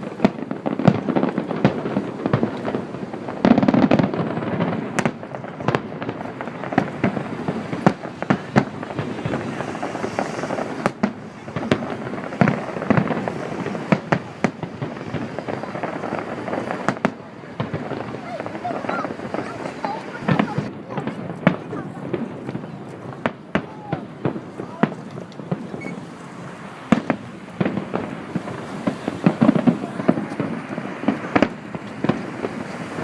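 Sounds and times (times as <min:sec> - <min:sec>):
fireworks bangs: 0:00.0 - 0:33.0
fireworks rumble and crackle: 0:00.0 - 0:33.0.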